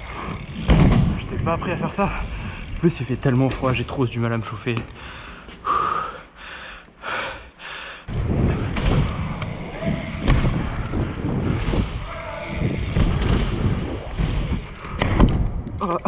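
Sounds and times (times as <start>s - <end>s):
bike tyres rumbling on wooden ramps: 0.0s - 5.4s, 8.1s - 16.0s.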